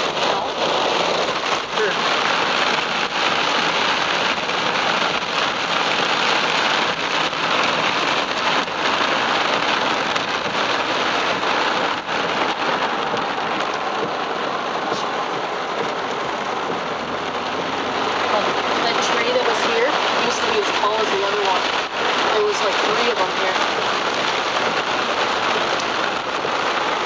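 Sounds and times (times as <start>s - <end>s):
heavy rain on a car roof: 0.0s - 27.0s.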